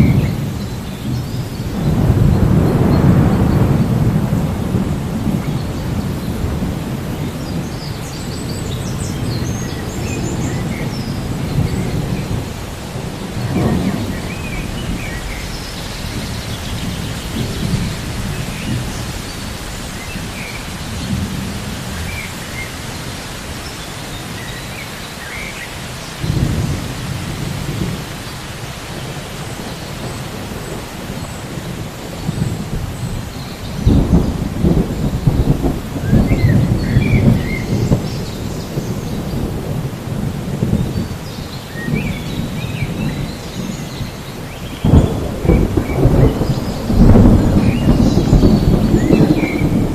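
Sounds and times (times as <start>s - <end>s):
rolling thunder: 0.0s - 24.9s, 26.0s - 49.9s
steady rain: 0.0s - 49.9s.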